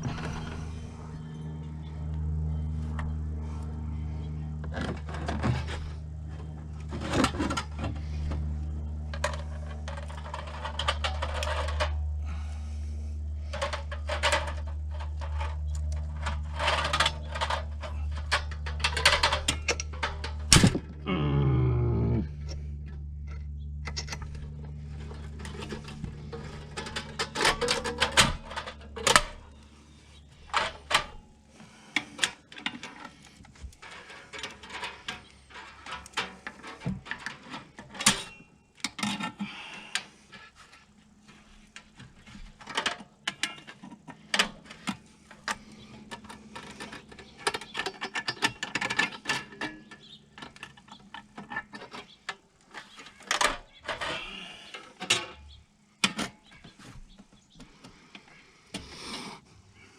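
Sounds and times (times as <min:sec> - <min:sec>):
hand tools and metal parts clinking: 0:00.0 - 0:21.2, 0:21.8 - 0:59.9
steady low hum: 0:00.0 - 0:59.9.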